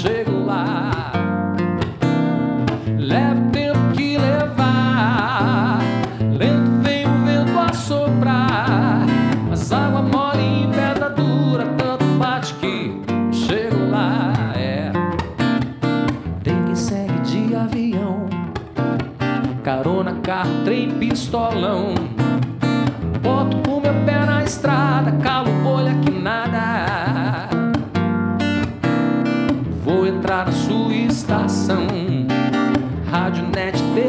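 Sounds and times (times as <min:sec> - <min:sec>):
fingerpicked acoustic guitar: 0:00.0 - 0:34.0.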